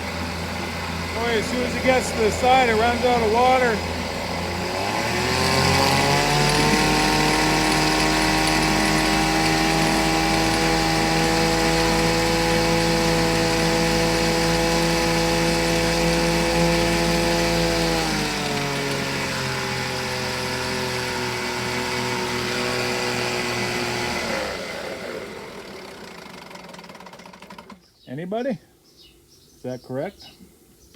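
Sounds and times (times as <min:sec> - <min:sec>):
outboard motor running: 0:00.0 - 0:27.8.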